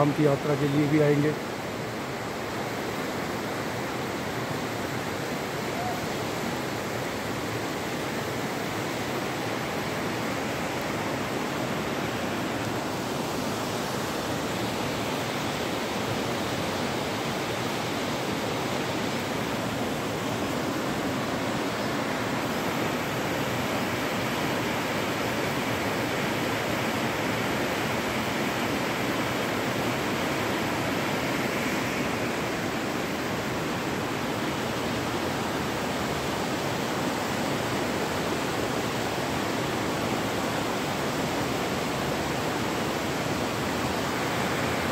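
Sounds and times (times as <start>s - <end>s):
river rushing over rapids: 0.0s - 44.9s.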